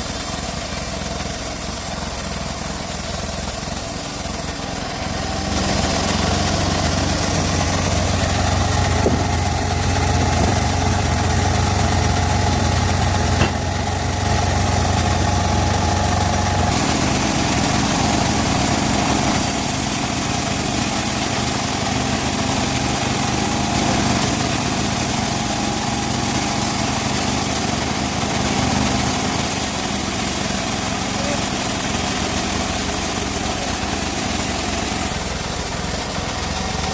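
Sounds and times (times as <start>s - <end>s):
band sawmill drone: 0.0s - 36.9s.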